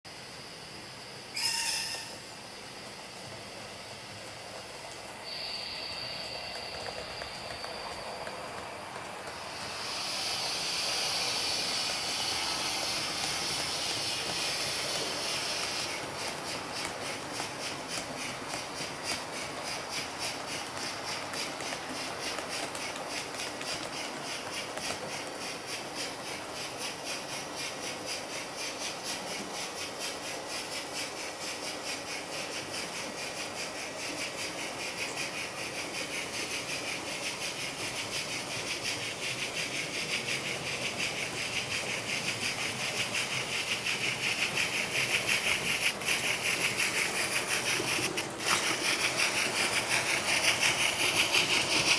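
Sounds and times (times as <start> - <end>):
model train steam chuffing: 0.1 - 51.9.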